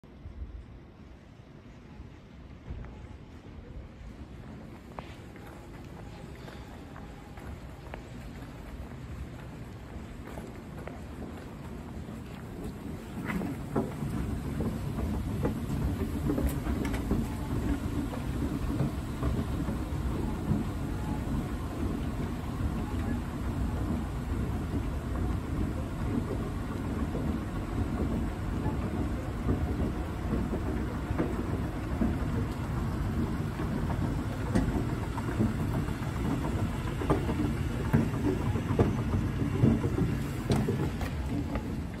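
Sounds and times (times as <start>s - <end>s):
escalator rumbling: 2.6s - 42.0s.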